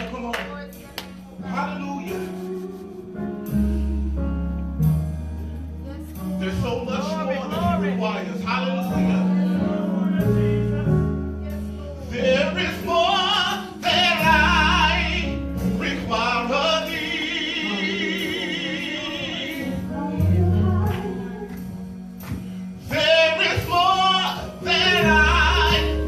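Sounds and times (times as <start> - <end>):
gospel worship singing: 0.0 - 4.8, 6.0 - 26.0
sustained low bass notes: 0.0 - 26.0.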